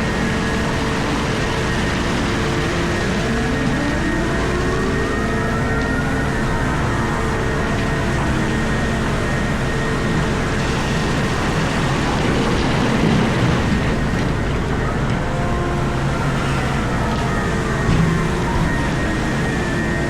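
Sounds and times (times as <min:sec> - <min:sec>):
excavator engine droning: 0:00.0 - 0:20.0.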